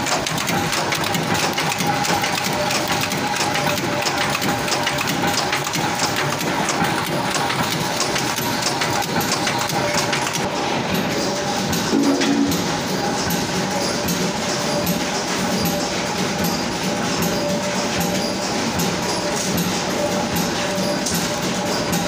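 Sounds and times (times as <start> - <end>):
rapid mechanical clatter: 0.0 - 22.0
steady machine hum: 0.0 - 22.0.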